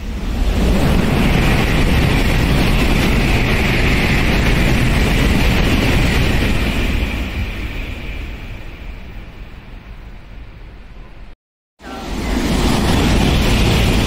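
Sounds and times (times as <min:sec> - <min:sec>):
bullet train rushing past: 0:00.0 - 0:14.0.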